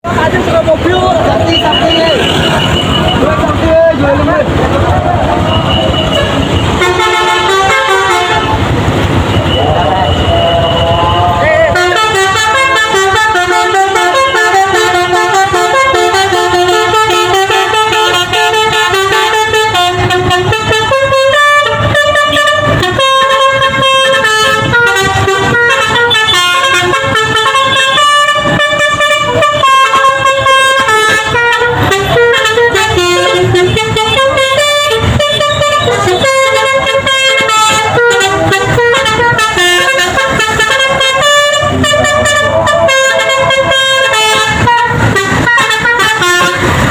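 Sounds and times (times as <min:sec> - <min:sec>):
multi-note bus air horn melody: 0:05.4 - 0:46.9.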